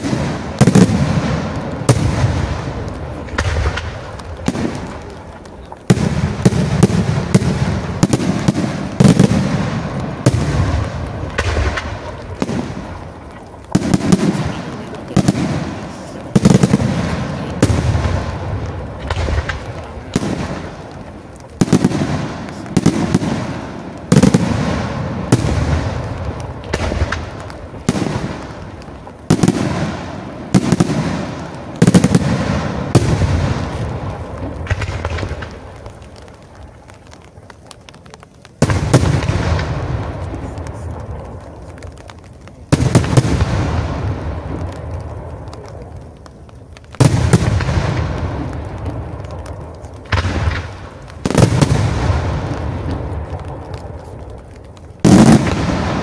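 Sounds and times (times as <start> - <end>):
firework shells bursting: 0.0 - 56.0
low rolling rumble: 0.3 - 56.0.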